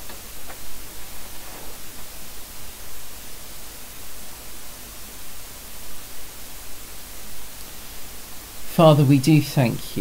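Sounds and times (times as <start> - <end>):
recording hiss and static: 0.0 - 10.0.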